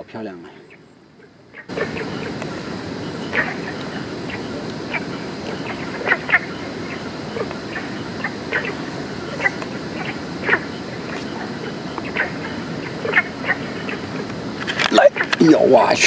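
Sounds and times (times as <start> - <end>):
frogs croaking: 0.0 - 16.0
low background noise: 0.0 - 16.0.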